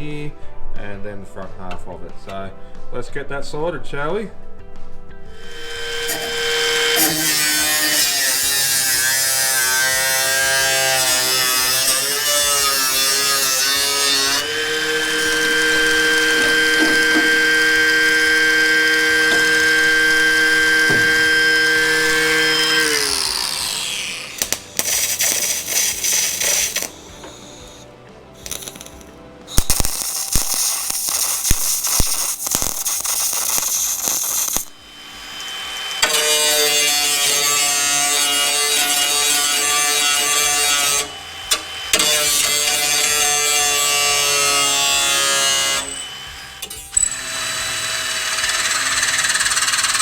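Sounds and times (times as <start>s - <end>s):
power cutting tool cutting metal: 5.3s - 50.0s.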